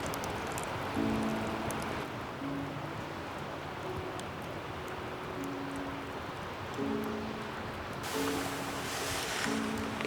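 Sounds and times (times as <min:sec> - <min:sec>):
steady rushing noise: 0:00.0 - 0:10.0
background music: 0:00.5 - 0:10.0.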